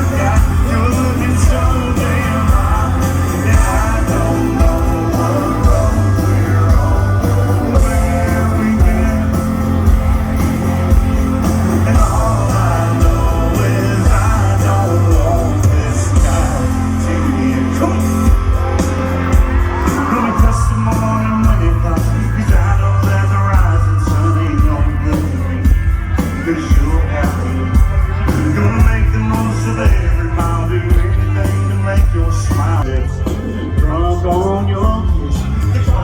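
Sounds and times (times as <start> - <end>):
heavy bass: 0.0 - 36.0
lead singer: 0.0 - 36.0
live country-rock band: 0.0 - 36.0.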